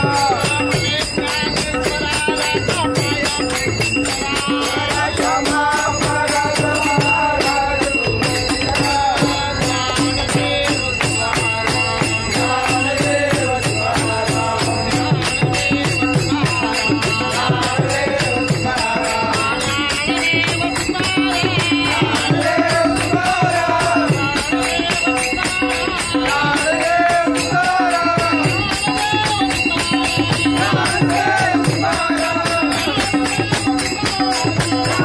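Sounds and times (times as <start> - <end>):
hand cymbals struck: 0.0 - 35.0
men singing in unison: 0.0 - 35.0.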